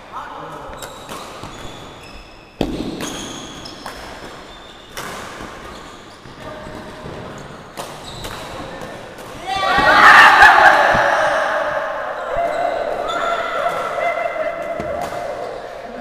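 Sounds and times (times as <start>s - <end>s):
shoes squeaking on wooden court: 0.4s - 10.0s, 12.1s - 15.5s.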